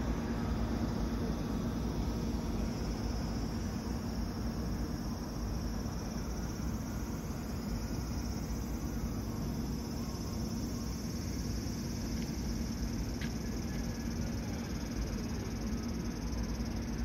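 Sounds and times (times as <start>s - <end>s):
insects trilling: 0.0s - 17.0s
low hum and rumble: 0.0s - 17.0s.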